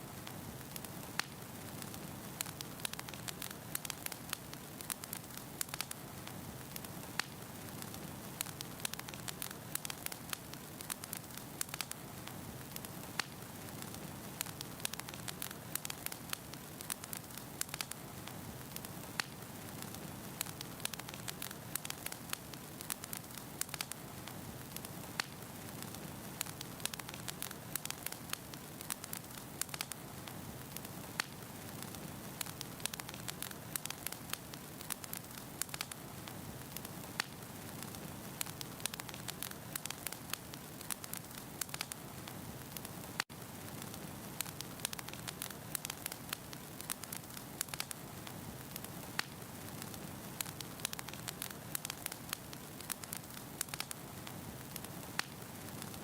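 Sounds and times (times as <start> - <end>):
fire hissing: 0.0 - 56.0
logs crackling and popping: 0.0 - 56.0.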